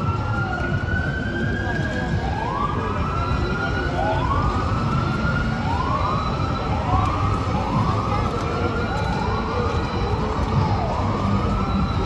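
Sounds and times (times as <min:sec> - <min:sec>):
city traffic rumble: 0:00.0 - 0:12.0
emergency vehicle siren: 0:00.0 - 0:12.0.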